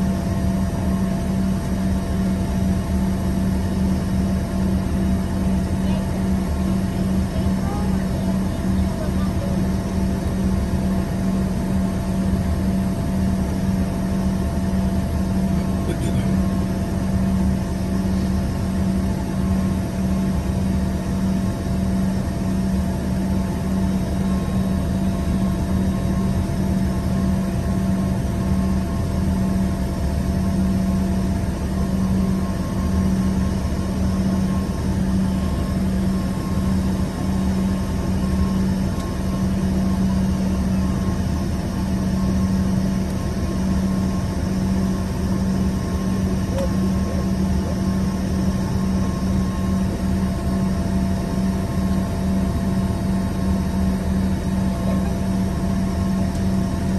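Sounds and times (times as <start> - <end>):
jet cabin low hum: 0.0 - 56.9.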